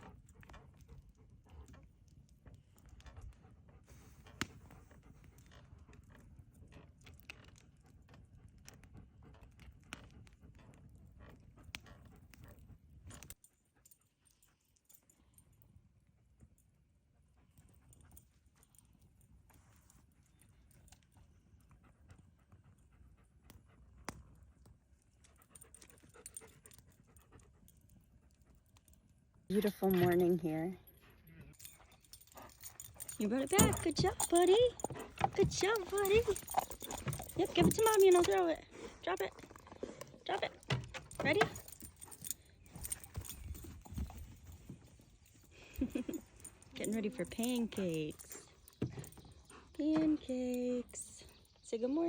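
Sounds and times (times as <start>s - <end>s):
dog panting: 0.0s - 14.6s, 17.4s - 29.0s, 29.6s - 51.5s.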